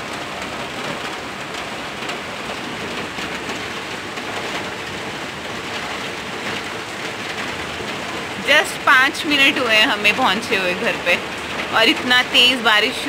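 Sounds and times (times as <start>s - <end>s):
heavy rain falling on a street: 0.0s - 13.0s.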